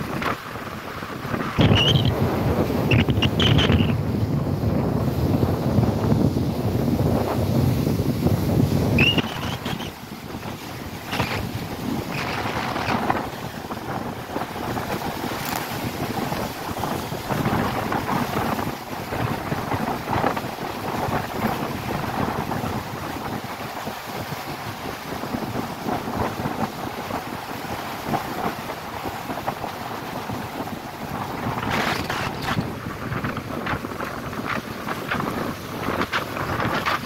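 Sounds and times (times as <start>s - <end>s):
sea waves splashing against rocks: 0.0s - 37.0s
wind buffeting microphone: 0.0s - 37.0s.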